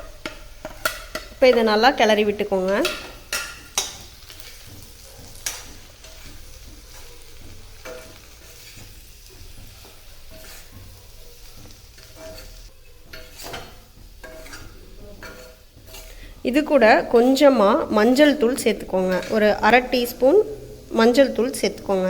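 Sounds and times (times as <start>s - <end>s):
potatoes sizzling in oil: 0.0s - 22.0s
utensil scraping and knocking pan: 0.0s - 22.0s.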